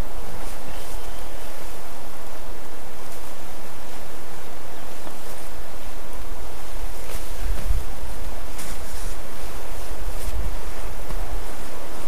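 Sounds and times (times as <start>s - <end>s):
faint rustle: 0.0s - 12.0s
wind buffeting microphone: 0.0s - 12.0s.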